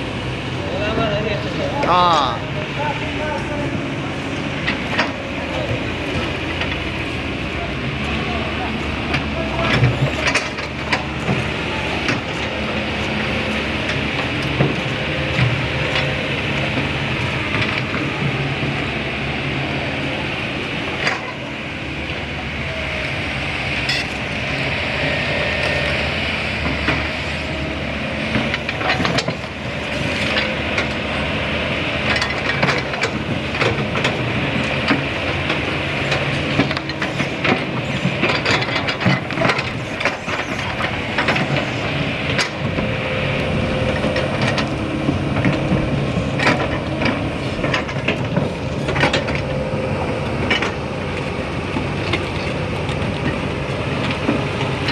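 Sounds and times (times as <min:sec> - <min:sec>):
excavator diesel engine: 0:00.0 - 0:54.9.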